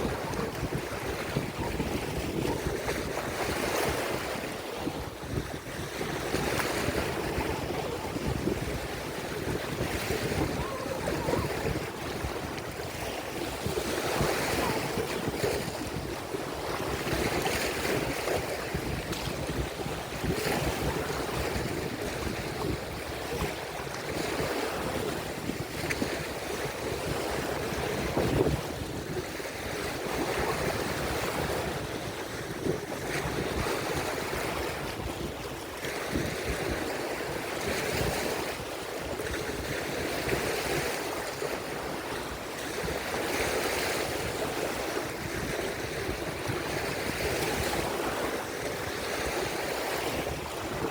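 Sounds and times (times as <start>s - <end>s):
lake waves breaking on shore: 0.0s - 50.9s
wind buffeting microphone: 0.0s - 50.9s.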